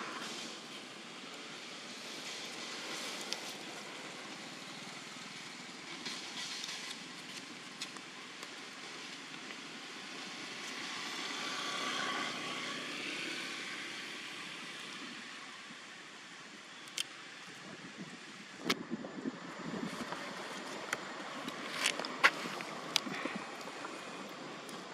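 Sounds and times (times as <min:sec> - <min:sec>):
steady outdoor hiss: 0:00.0 - 0:24.9.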